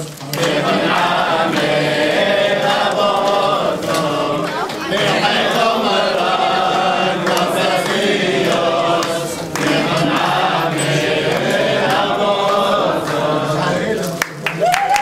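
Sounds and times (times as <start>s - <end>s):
group singing a chant: 0.0s - 14.4s
hands clapping: 0.0s - 15.0s.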